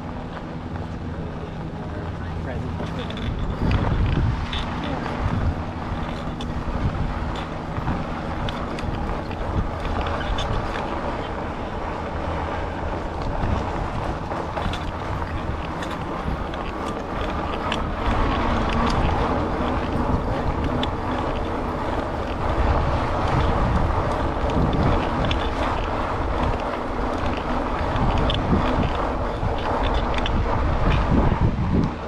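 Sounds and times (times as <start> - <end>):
steady low rumble: 0.0 - 32.0
wind on microphone: 0.0 - 32.0
small ticks and rattles: 2.6 - 11.3, 13.1 - 31.1.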